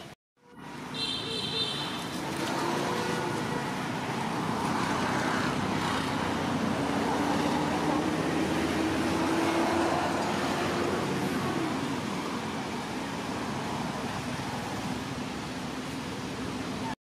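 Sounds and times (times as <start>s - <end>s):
road traffic noise: 0.0s - 17.0s
vehicle engine humming: 0.0s - 17.0s.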